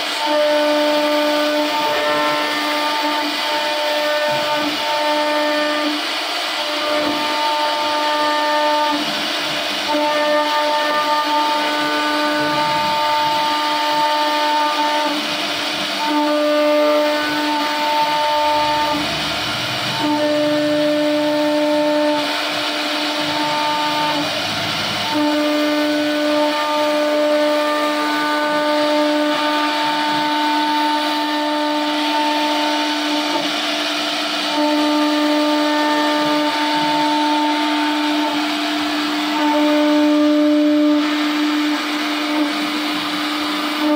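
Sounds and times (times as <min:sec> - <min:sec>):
hiss of wood being cut: 0:00.0 - 0:43.9
router spindle motor whining: 0:00.0 - 0:43.9.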